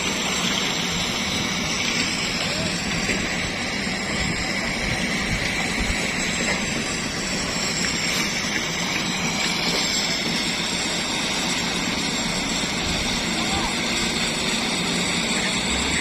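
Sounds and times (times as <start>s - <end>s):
diesel machinery engine droning: 0.0s - 16.0s.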